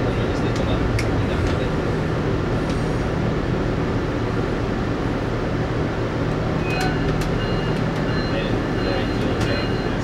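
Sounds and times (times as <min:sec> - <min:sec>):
train cabin rumble and hum: 0:00.0 - 0:10.0.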